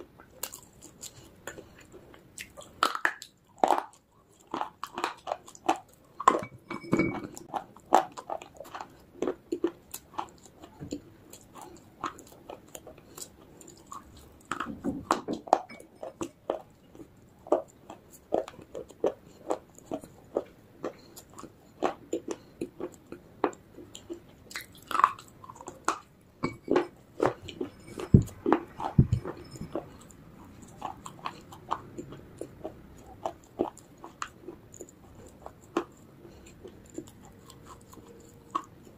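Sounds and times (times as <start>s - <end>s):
crunchy chewing: 0.0s - 6.6s, 7.2s - 38.9s.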